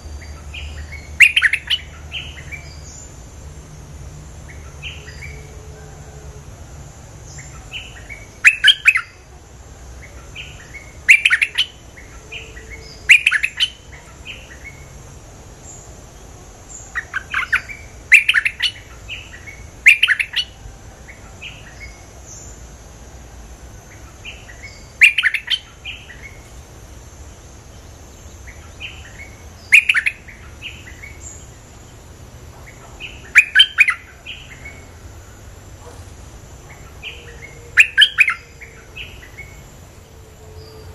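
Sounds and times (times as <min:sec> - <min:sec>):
high insect hum: 0:00.0 - 0:40.9.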